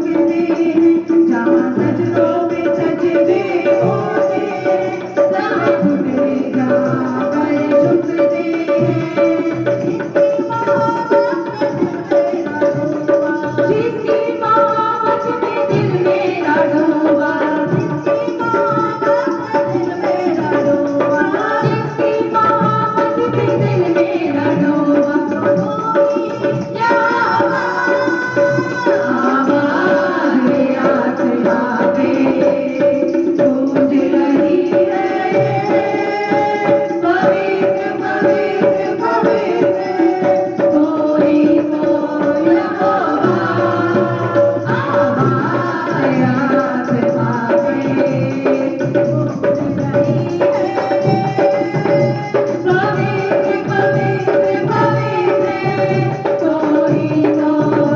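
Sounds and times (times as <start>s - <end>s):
tabla playing steady rhythm: 0.0s - 57.9s.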